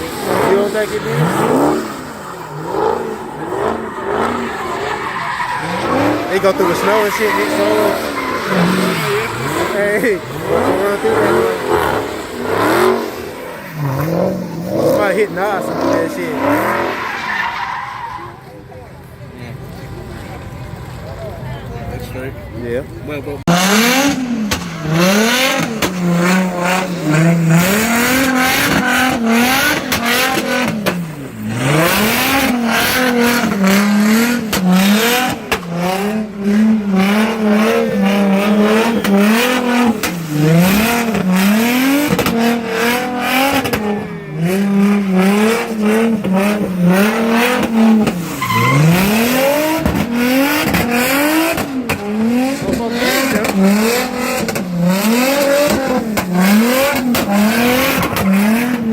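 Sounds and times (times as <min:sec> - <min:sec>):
car engine revving hard: 0:00.0 - 0:17.6, 0:23.4 - 0:58.9
tyres squealing: 0:00.0 - 0:18.6, 0:23.8 - 0:58.9.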